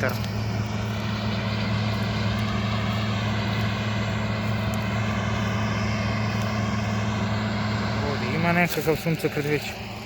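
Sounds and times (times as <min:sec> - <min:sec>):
combine harvester engine drone: 0:00.0 - 0:10.0.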